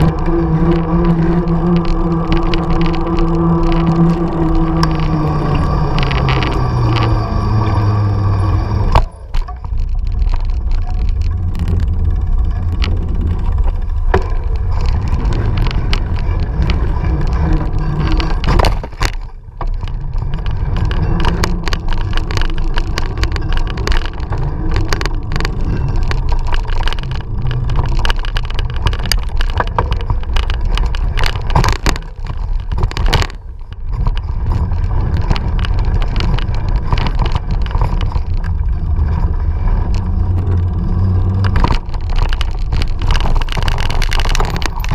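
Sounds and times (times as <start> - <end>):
bike rattling: 0.0 - 44.9.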